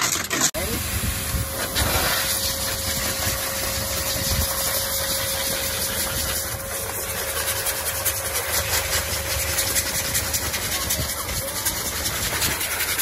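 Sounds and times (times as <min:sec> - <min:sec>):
pet dryer blowing air: 0:00.6 - 0:13.0.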